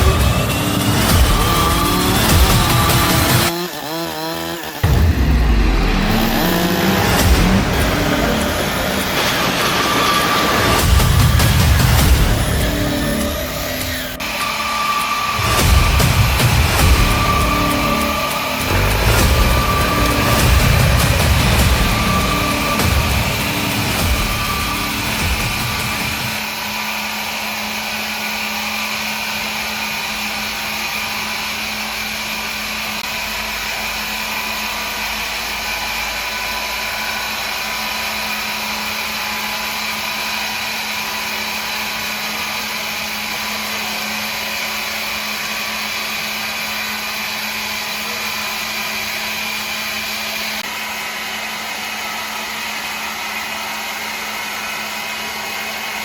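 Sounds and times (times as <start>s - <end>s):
woodworking machine hum and hiss: 0.0s - 56.0s.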